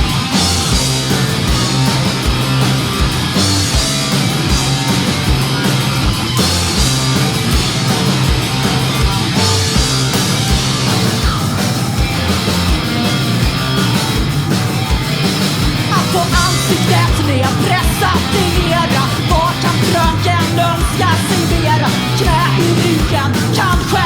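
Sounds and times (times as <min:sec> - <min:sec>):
punk rock band playing live: 0:00.0 - 0:24.0
steady kick-drum beat: 0:00.0 - 0:24.0.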